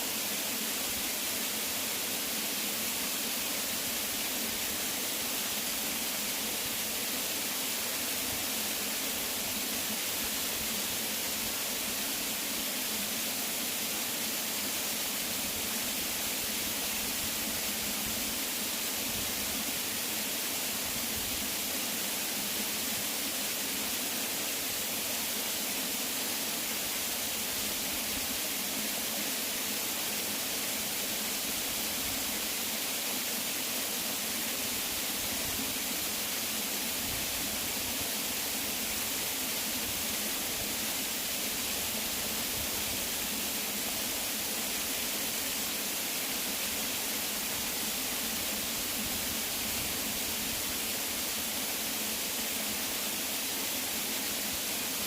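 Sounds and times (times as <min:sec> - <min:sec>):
waterfall hissing: 0:00.0 - 0:55.0.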